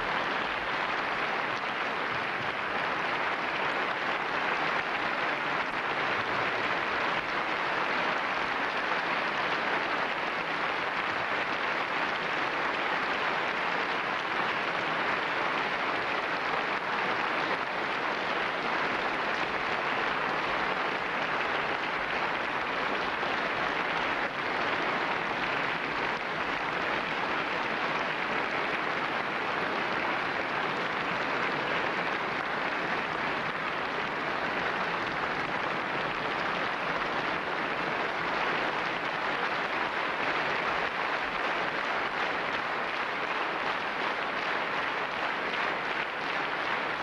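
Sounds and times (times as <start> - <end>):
audience applauding: 0.0 - 47.0.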